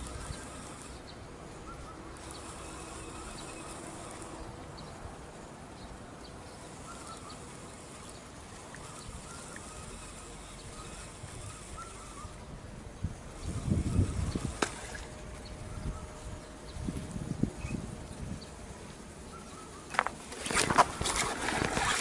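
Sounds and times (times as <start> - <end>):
warbling bird calls: 0.0 - 5.0, 5.8 - 12.6, 13.2 - 16.9, 17.5 - 22.0
steady outdoor hiss: 0.0 - 22.0.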